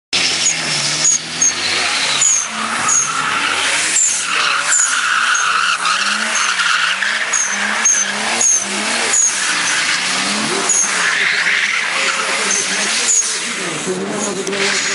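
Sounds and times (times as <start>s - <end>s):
car engine revving: 0.2s - 14.9s
tyres squealing: 0.2s - 14.9s.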